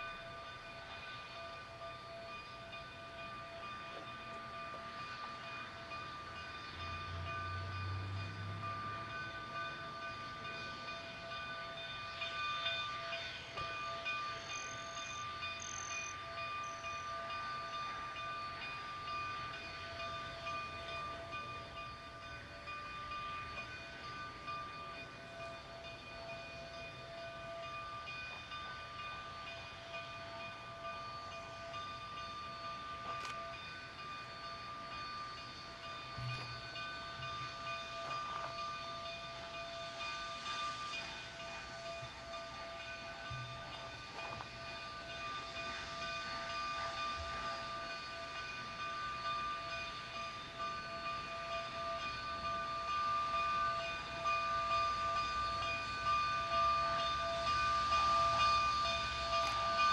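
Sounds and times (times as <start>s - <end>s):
distant steam locomotive rumble: 0.0s - 59.9s.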